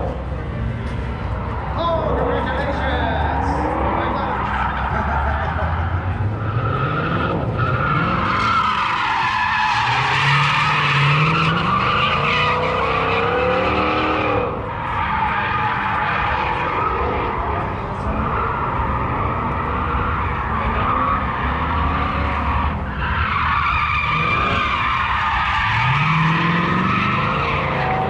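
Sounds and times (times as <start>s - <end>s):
car engine revving: 0.0s - 28.0s
tires squealing: 0.0s - 28.0s.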